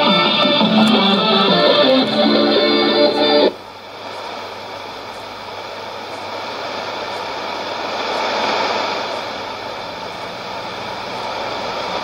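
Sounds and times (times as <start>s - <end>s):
shortwave radio static hiss: 0.0s - 12.0s.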